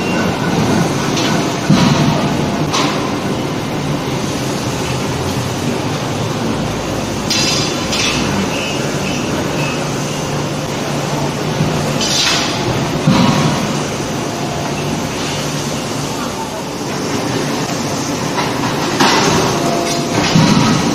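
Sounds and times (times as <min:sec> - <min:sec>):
forge press machine noise: 0:00.0 - 0:20.9.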